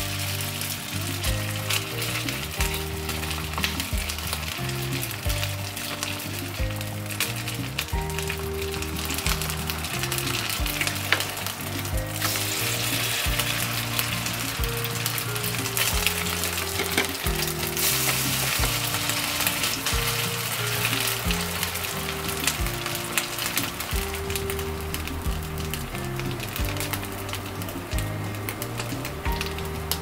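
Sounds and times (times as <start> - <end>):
batter sizzling in oil: 0.0 - 30.0.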